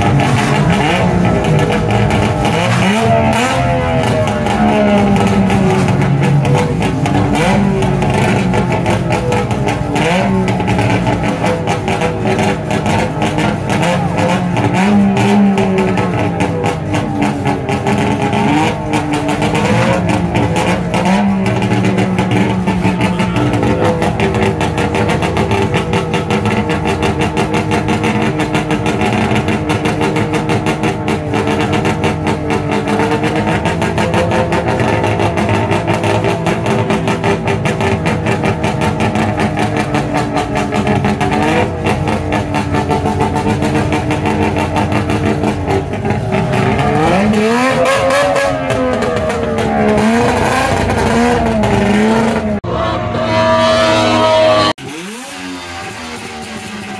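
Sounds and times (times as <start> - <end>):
two-stroke engine revving and idling: 0.0 - 56.9.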